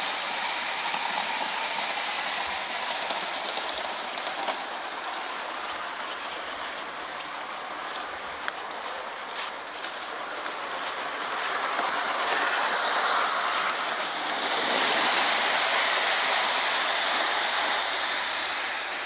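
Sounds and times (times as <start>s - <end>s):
steam hissing: 0.0s - 19.0s
train wheels on rails: 0.0s - 19.0s.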